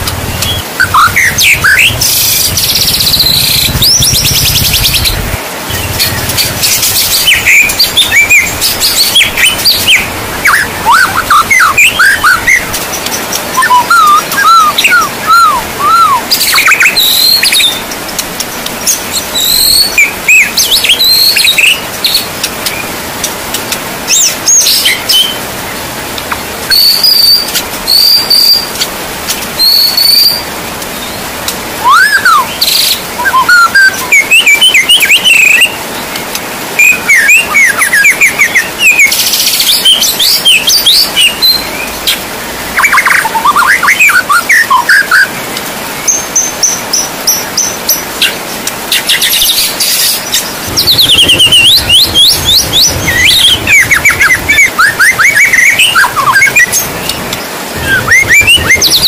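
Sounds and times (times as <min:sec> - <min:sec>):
songbird singing trills: 0:00.0 - 0:23.0, 0:26.7 - 0:36.0, 0:36.8 - 0:42.2, 0:46.0 - 0:59.0
rain hiss: 0:00.0 - 0:59.0.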